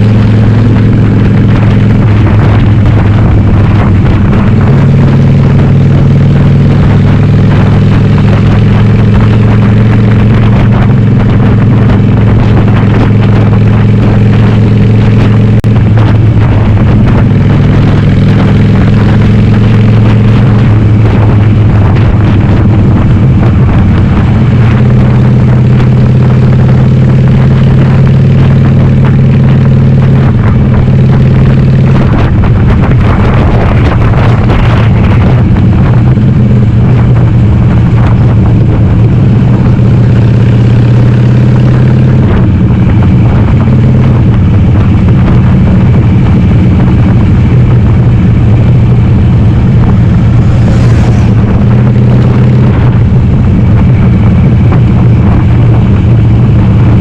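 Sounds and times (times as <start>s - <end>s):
loud motorcycle engine: 0.0s - 57.0s.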